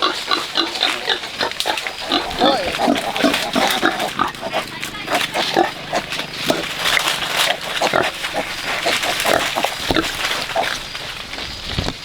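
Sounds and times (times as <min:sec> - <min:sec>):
pigs grunting and squealing: 0:00.0 - 0:11.7.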